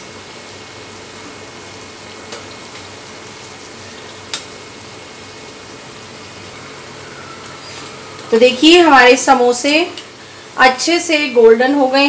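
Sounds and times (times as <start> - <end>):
oil sizzling in deep frying: 0.0 - 12.0.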